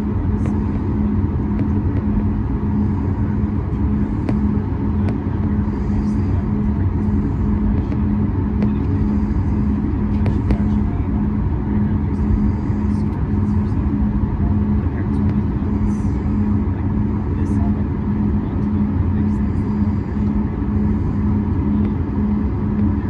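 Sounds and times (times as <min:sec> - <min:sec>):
airplane cabin jet engine drone: 0:00.0 - 0:23.0
steady low hum: 0:00.0 - 0:23.0.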